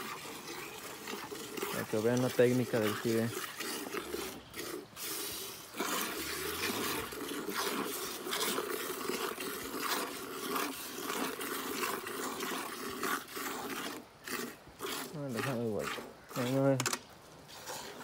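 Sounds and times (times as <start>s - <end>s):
milk squirting into a pail: 0.0s - 16.8s.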